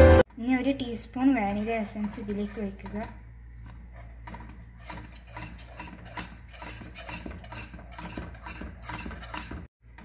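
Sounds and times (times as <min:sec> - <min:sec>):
whisk clicking and scraping metal pan: 0:01.3 - 0:09.7.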